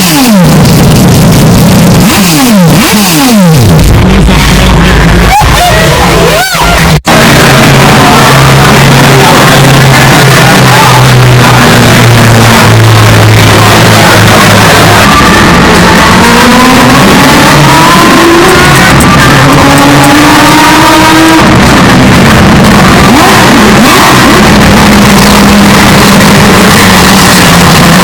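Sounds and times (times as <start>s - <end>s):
race car engine accelerating: 0.0s - 28.0s.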